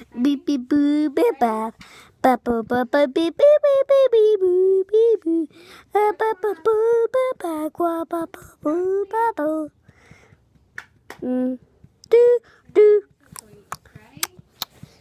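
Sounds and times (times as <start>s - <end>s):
child singing wordless tune: 0.0s - 10.0s, 11.2s - 14.5s.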